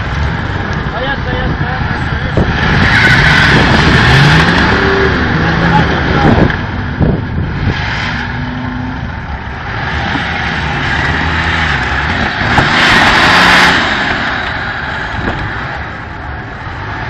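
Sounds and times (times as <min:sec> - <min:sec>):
engine revving under load: 0:02.2 - 0:17.0.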